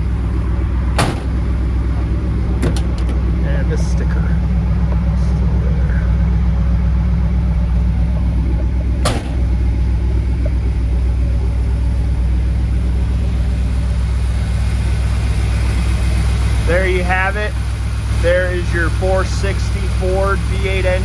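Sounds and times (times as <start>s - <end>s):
vee eight engine idling: 0.0s - 21.0s.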